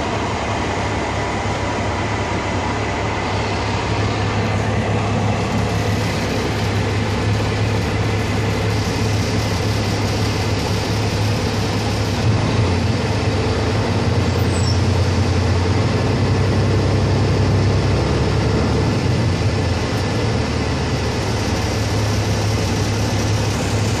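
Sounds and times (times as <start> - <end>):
truck diesel engine humming: 0.0 - 24.0.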